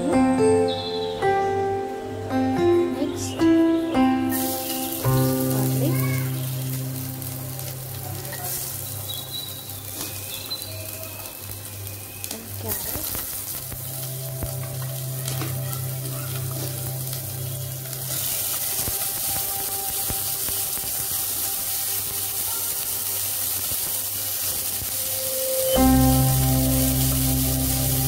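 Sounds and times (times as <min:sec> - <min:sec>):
garlic sizzling in oil: 0:04.2 - 0:28.0.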